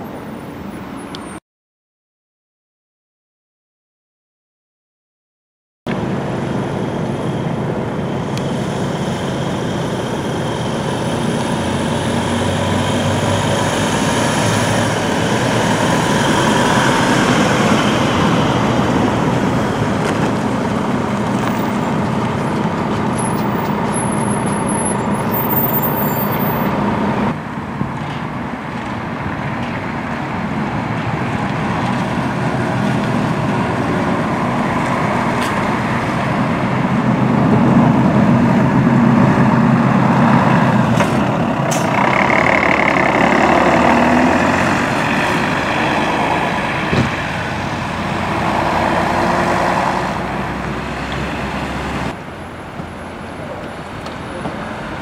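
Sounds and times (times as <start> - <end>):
minibus driving past: 5.9 - 27.8, 28.4 - 55.0
bus engine running: 5.9 - 55.0
coach engine approaching: 5.9 - 55.0.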